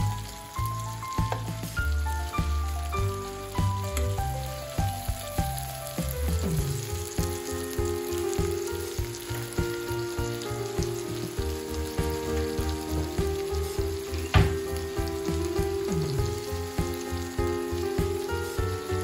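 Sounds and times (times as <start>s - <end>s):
background music: 0.0s - 19.0s
tomato slices sizzling in oil: 0.0s - 19.0s.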